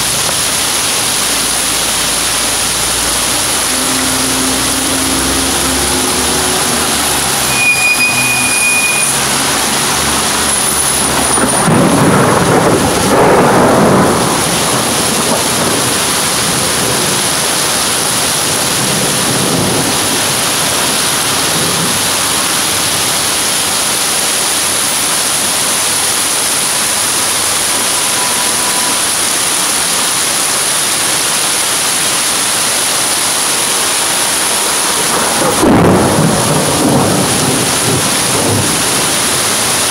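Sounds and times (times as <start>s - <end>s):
loud rumbling: 0.0s - 30.3s, 33.3s - 39.9s
torrential rain hissing: 0.0s - 39.9s
truck engine: 0.0s - 39.9s
vehicles splashing through water: 0.0s - 39.9s.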